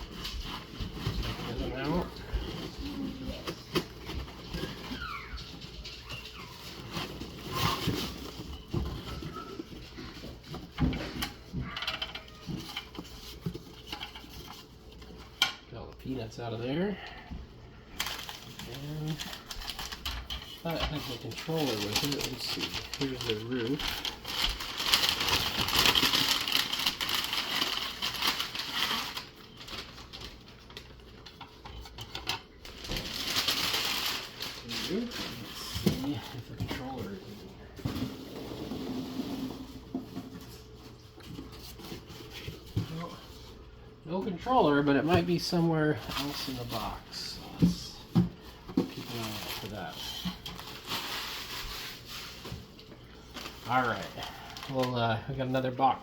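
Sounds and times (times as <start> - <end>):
rustling packing peanuts: 0.0 - 17.2, 18.0 - 56.0.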